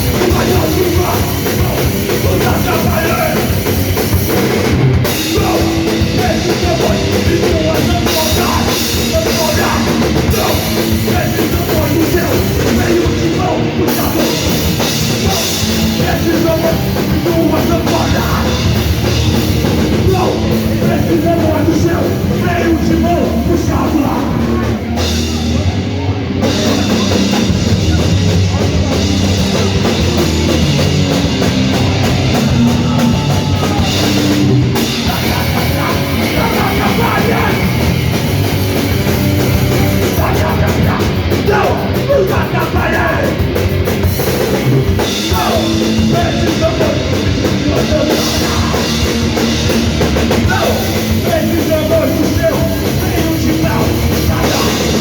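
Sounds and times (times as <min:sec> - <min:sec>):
drum kit: 0:00.0 - 0:55.0
punk band playing loud: 0:00.0 - 0:55.0.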